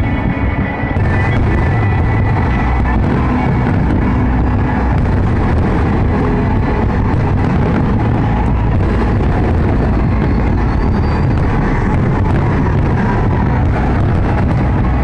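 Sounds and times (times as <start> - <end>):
faint fireworks crackling: 0.0 - 15.0
fireworks rumbling: 0.0 - 15.0.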